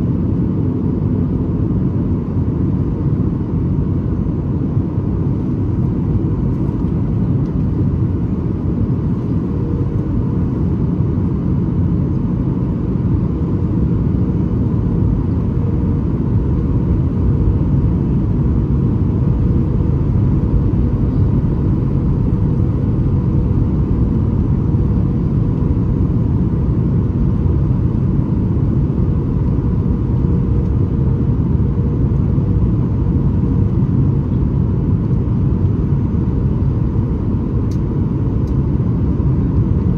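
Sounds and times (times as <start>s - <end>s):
airplane cabin rumble: 0.0s - 39.9s
faint steady hum: 0.0s - 39.9s.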